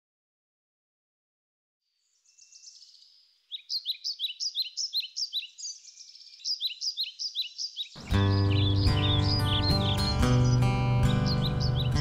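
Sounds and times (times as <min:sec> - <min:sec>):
birds chirping: 0:02.0 - 0:12.0.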